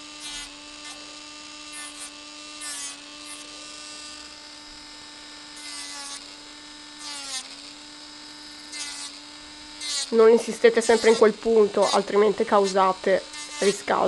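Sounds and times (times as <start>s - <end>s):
electric nail drill humming: 0.0s - 14.0s
scratchy filing on nail: 0.1s - 4.2s, 5.6s - 7.8s, 8.6s - 14.0s.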